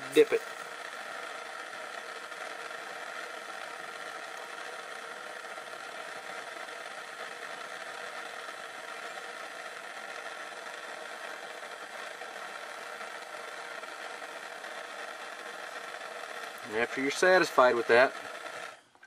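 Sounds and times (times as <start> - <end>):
steady whirring noise: 0.0 - 19.0.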